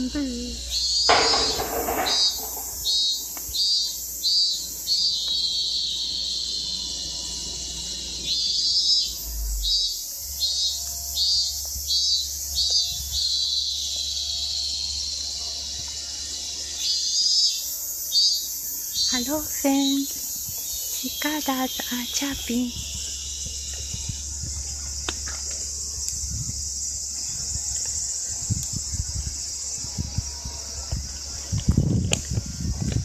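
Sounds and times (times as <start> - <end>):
cicada drawn-out buzz: 0.0 - 33.0
cicada pulsing call: 0.0 - 33.0
high hiss of cicadas: 0.0 - 33.0.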